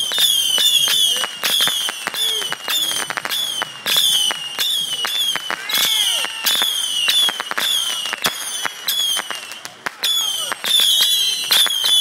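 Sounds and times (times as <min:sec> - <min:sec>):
firework cracks and pops: 0:00.0 - 0:12.0
firework whistling shots: 0:00.0 - 0:12.0.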